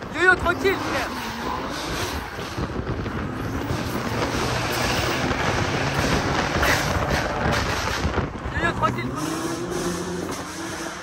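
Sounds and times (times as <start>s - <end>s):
car engine running hard: 0.0s - 11.0s
wind noise on microphone: 0.0s - 11.0s.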